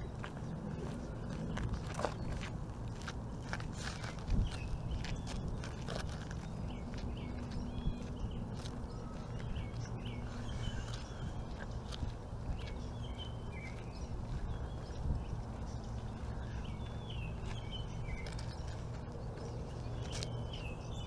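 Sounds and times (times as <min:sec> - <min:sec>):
low background rumble: 0:00.0 - 0:21.0
songbirds chirping: 0:00.0 - 0:21.0.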